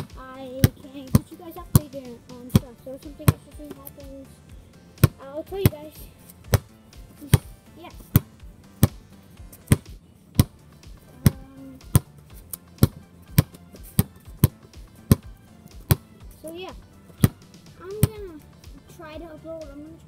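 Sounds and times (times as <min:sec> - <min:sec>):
basketball bouncing: 0:00.0 - 0:04.3, 0:04.9 - 0:18.8.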